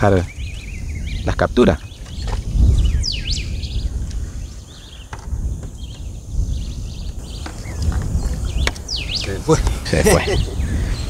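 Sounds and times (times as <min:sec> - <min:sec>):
birds whistling and chattering: 0:00.0 - 0:11.0.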